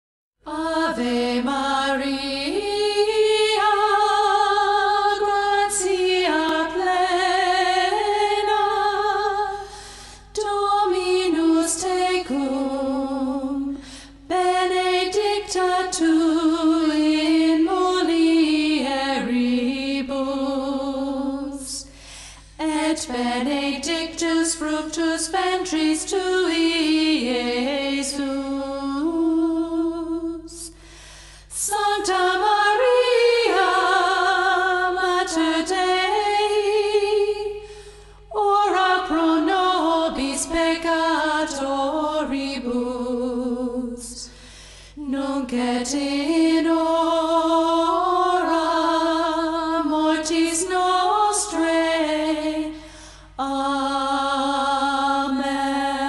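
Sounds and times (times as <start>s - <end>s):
woman singing a slow religious song: 0.4s - 56.0s.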